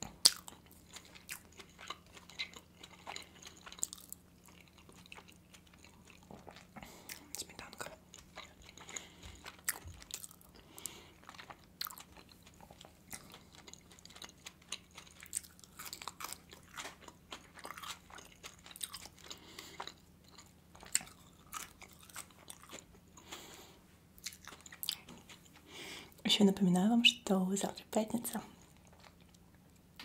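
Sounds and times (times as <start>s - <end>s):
chewing with mouth clicks: 0.0s - 23.6s, 24.2s - 25.7s, 28.6s - 29.9s.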